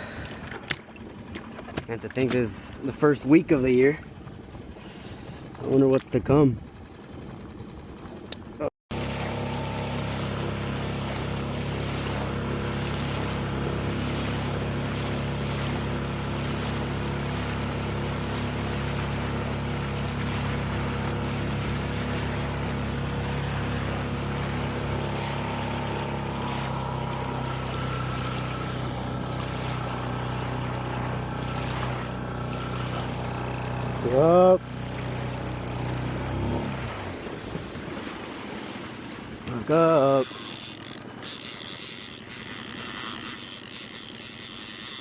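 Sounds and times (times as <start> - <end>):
boat motor running: 0.0 - 45.0
water noise: 0.0 - 45.0
wind: 0.0 - 45.0.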